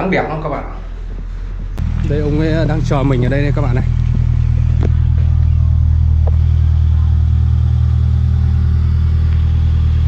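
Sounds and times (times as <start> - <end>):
minivan engine idling: 0.8 - 10.0.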